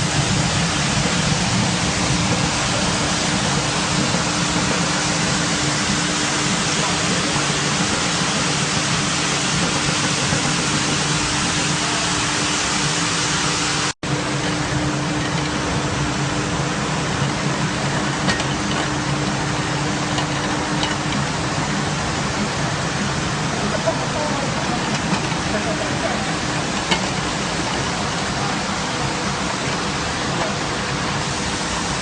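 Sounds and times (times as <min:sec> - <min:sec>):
carpet washing machine running: 0:00.0 - 0:32.0.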